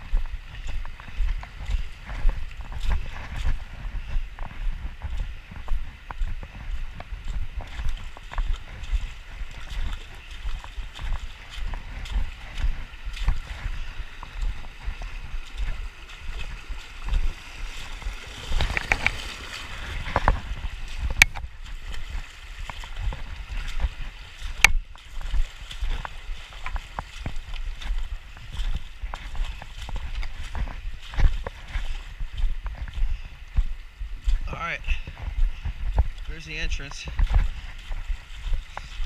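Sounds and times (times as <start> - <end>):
footsteps sloshing through water: 0.0 - 39.0.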